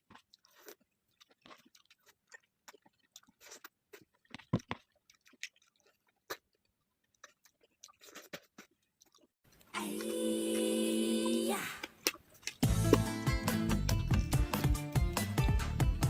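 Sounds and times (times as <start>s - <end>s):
person chewing and smacking: 0.0s - 9.7s, 11.8s - 16.0s.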